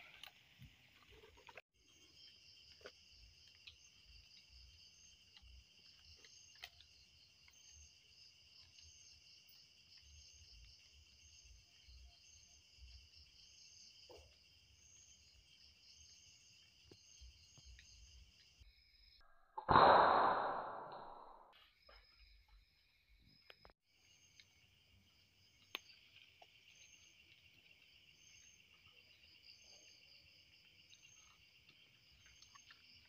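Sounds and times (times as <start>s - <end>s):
insects trilling: 0.0s - 19.2s, 21.8s - 33.0s.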